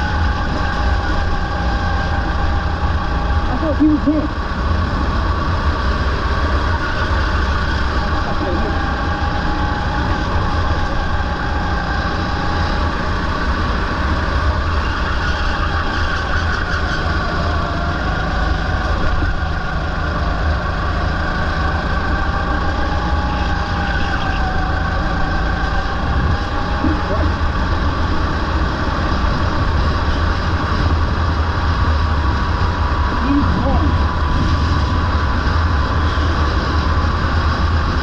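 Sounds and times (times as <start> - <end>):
go-kart engine running: 0.0 - 38.0.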